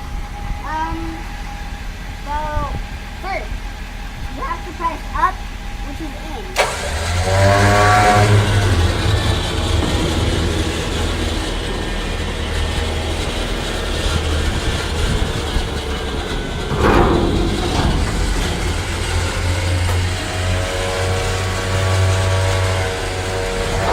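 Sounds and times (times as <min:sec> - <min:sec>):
dump truck engine running: 0:00.0 - 0:23.9.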